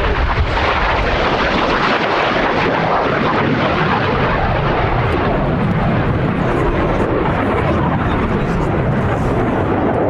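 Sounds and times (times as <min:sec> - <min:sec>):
jet flying past: 0:00.0 - 0:10.0.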